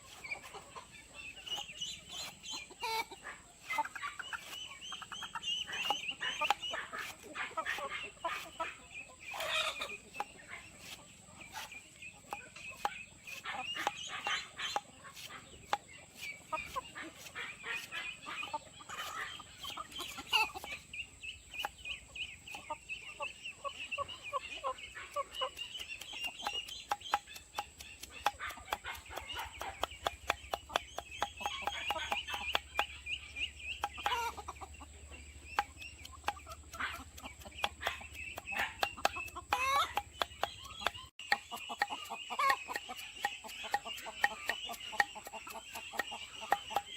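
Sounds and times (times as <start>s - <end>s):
hens clucking: 0.0s - 46.9s.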